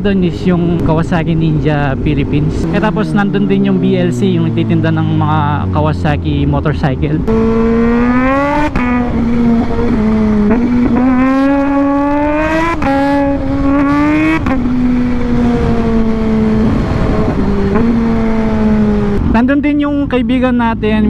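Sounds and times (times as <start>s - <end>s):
motorcycle engine revving: 0.0s - 19.4s
wind noise: 0.0s - 20.2s
road rumble: 0.0s - 21.0s.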